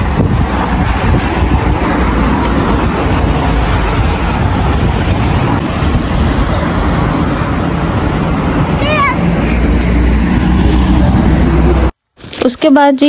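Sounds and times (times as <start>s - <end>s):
car road and engine rumble: 0.0s - 12.2s.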